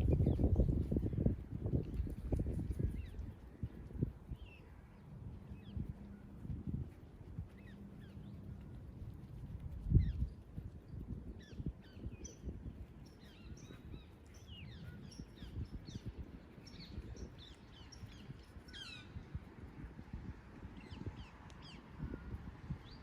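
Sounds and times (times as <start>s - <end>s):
small birds chirping: 0.0s - 19.6s
wind buffeting microphone: 0.0s - 23.0s.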